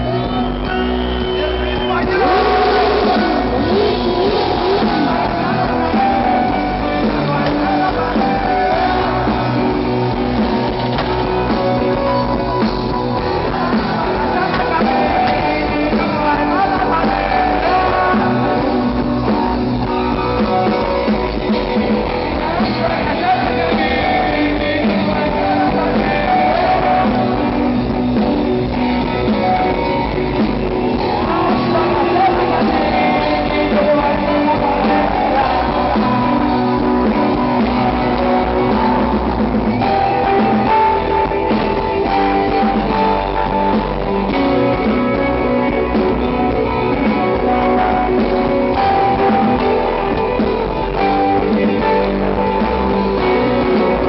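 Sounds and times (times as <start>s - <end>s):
guitar melody: 0.0s - 54.0s
rock band playing live: 0.0s - 54.0s.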